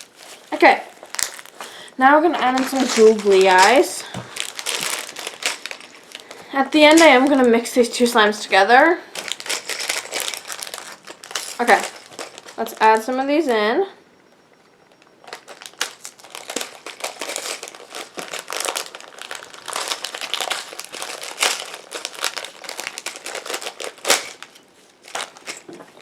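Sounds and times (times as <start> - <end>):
plastic packaging crinkling: 0.0 - 13.6, 14.9 - 26.0.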